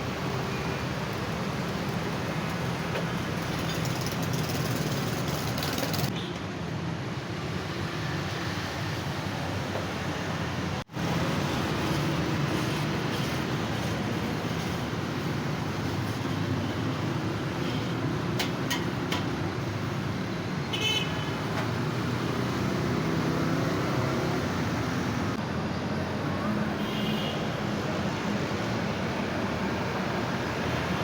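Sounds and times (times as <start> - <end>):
roadside traffic: 0.0 - 31.0.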